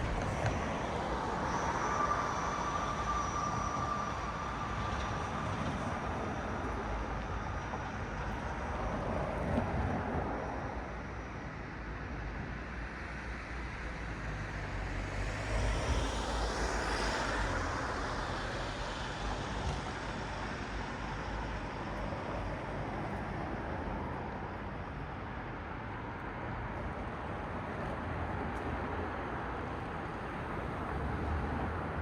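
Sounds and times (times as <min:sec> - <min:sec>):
traffic tyre and engine noise: 0:00.0 - 0:32.0.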